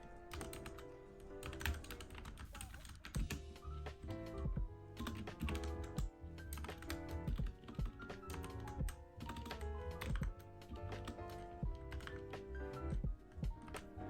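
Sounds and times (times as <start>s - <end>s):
mechanical keyboard typing: 0.0s - 3.5s, 4.3s - 14.0s
soft background music: 0.0s - 14.0s.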